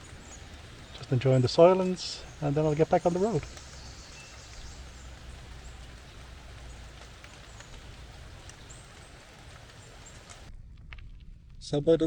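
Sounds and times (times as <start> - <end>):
rain patter on leaves: 0.0 - 10.5
water drips: 0.0 - 10.5.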